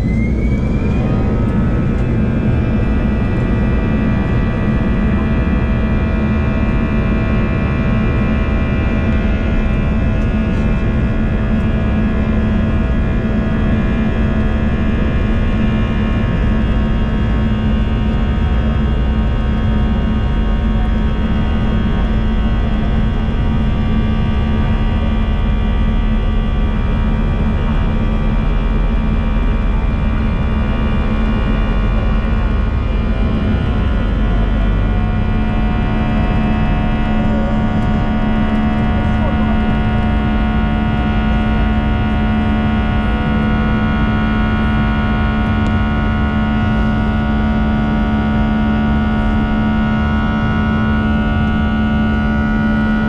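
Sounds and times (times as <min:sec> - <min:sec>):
jet engine whining tones: 0:00.0 - 0:53.0
jet engines rumbling: 0:00.0 - 0:53.0.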